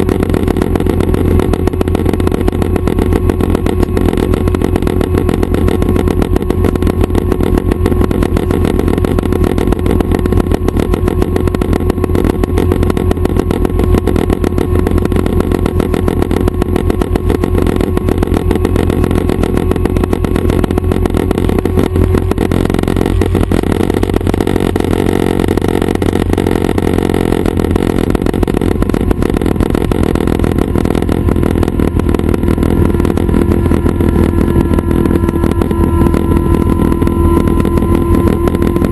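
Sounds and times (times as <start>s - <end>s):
helicopter engine and rotor beat: 0.0s - 38.9s.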